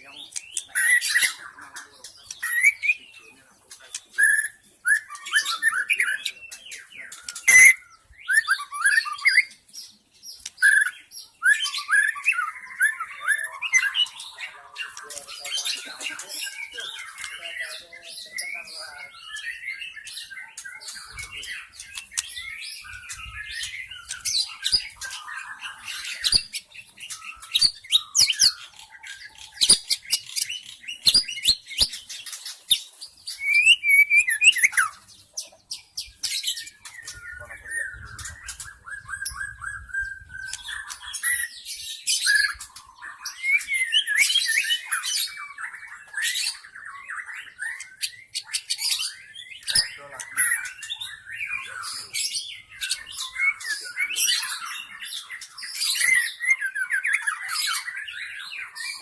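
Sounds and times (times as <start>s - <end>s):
bird singing varied song: 0.0s - 59.0s.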